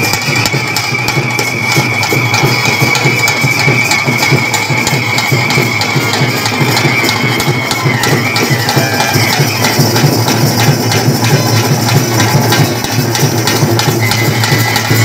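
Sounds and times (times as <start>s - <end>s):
high-pitched wind instrument: 0.0s - 15.0s
rapid steady drumming: 0.0s - 15.0s.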